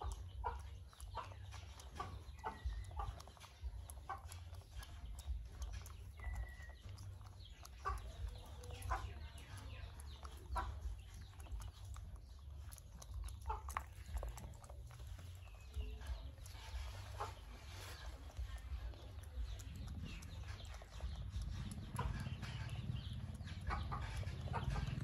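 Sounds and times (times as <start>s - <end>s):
chickens clucking: 0.0s - 25.0s
steady low rumble: 0.0s - 25.0s.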